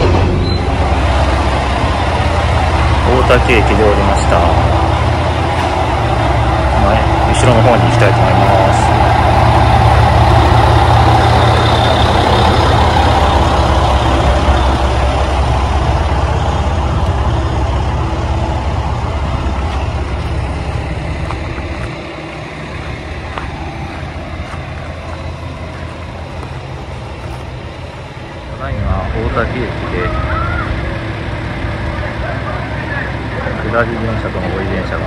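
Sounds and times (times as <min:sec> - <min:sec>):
diesel railcar engine drone: 0:00.0 - 0:35.0.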